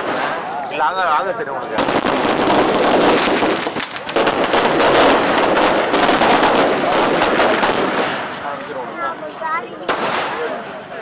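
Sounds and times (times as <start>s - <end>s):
firecrackers crackling: 0.0s - 11.0s.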